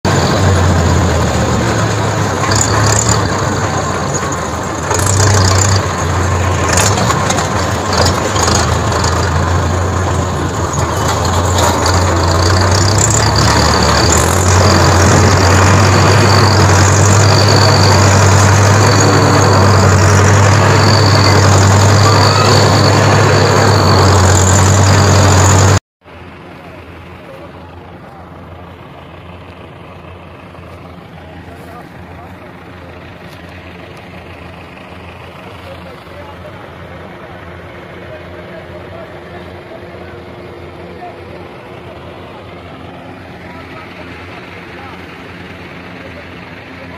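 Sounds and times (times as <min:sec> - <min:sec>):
tractor engine droning: 0:00.0 - 0:46.9.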